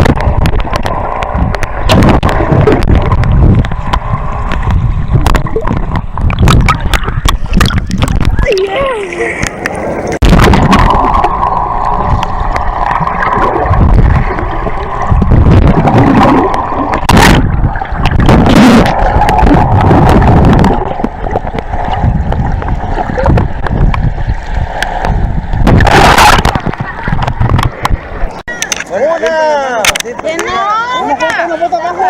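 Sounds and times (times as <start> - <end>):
water rushing and sloshing: 0.0 - 29.0.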